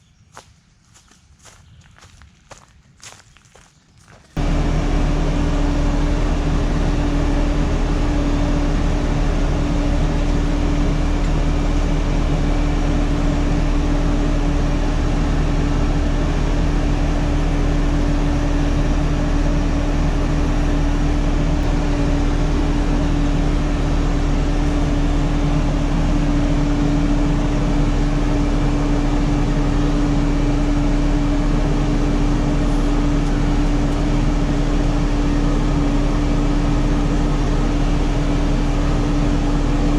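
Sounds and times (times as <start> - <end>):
machine drone with low hum: 4.3 - 39.9.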